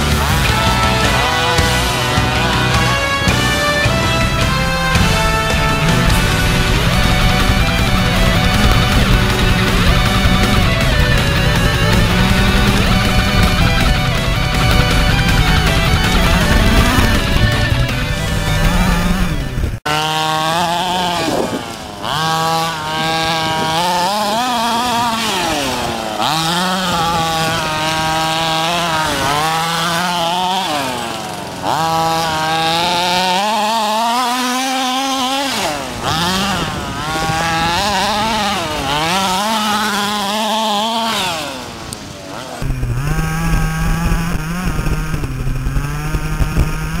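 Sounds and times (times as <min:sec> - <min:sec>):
two-stroke engine revving: 0:00.0 - 0:47.0.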